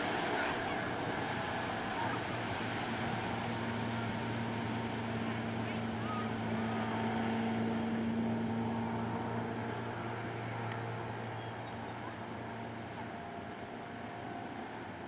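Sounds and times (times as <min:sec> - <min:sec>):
motorboat engine hum: 0:00.0 - 0:15.0.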